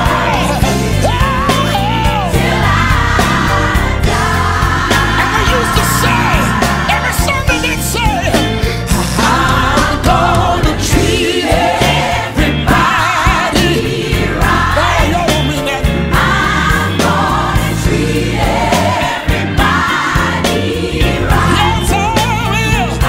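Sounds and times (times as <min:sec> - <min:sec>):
instrumental backing with bass: 0:00.0 - 0:23.0
voices singing gospel: 0:00.0 - 0:23.0.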